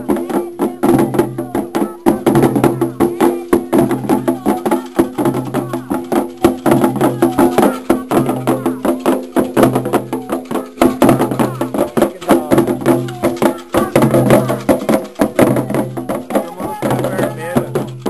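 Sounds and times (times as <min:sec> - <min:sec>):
fast drum strokes: 0:00.0 - 0:18.0.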